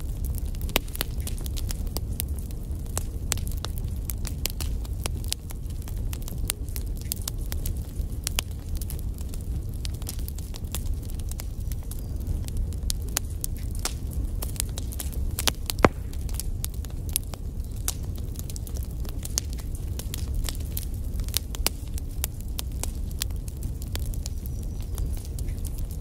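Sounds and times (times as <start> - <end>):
logs crackling and popping: 0.0 - 26.0
low rumble of flame: 0.0 - 26.0.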